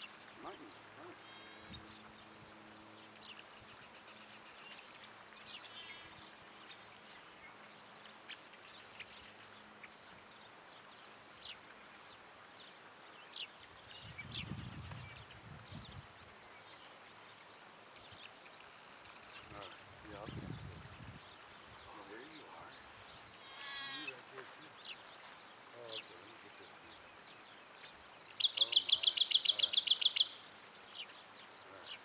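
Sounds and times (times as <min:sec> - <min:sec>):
birds chirping and trilling: 0:00.0 - 0:32.0
soft steady hiss: 0:00.0 - 0:32.0.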